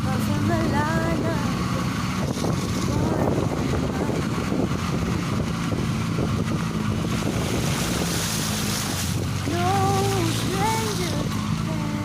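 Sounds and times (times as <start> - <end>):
car engine running: 0.0 - 12.0
road and wind noise: 0.0 - 12.0.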